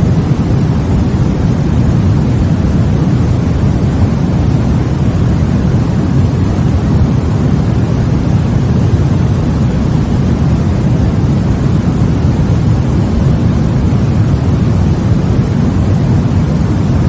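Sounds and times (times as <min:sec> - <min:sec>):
deep white noise: 0:00.0 - 0:17.0.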